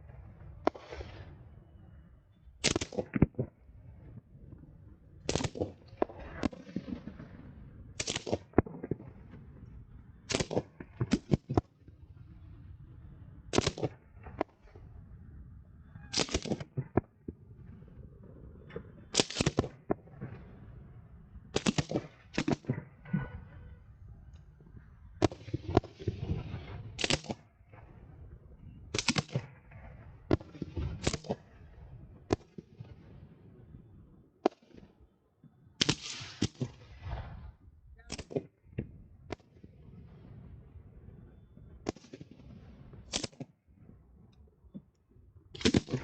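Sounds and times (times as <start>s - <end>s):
fireworks bangs: 0.0s - 4.5s, 5.2s - 35.0s, 35.8s - 43.5s, 45.5s - 46.0s.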